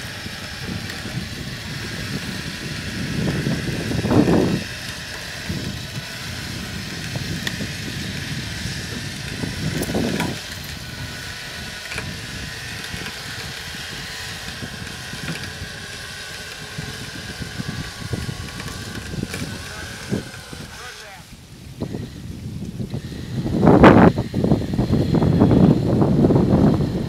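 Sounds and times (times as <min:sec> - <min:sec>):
vehicle engine under load: 0:00.0 - 0:27.0.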